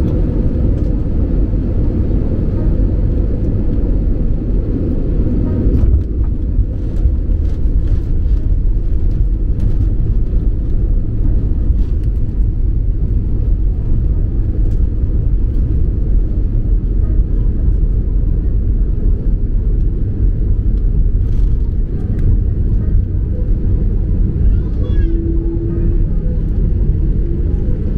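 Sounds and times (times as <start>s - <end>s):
jet engines in reverse thrust: 0.0s - 27.9s.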